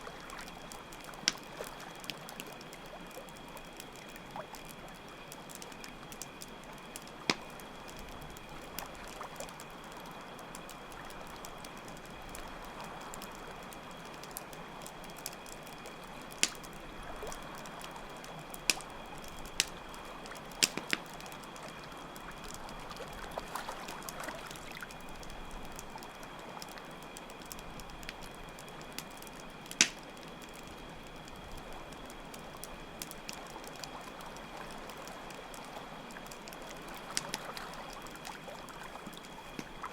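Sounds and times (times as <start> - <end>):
campfire crackling: 0.0 - 39.9
crickets trilling: 0.0 - 39.9.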